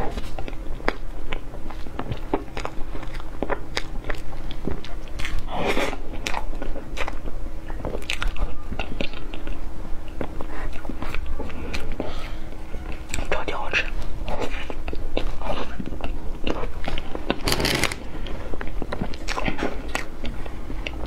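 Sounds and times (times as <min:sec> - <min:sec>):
wet mouth sounds chewing: 0:00.0 - 0:12.2, 0:12.9 - 0:21.0.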